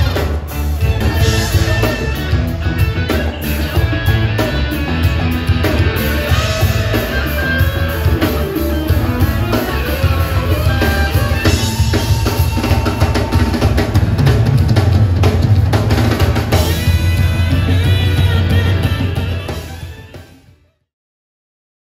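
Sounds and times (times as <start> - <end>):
drum kit: 0.0 - 20.7
live band playing rock-pop: 0.0 - 20.7.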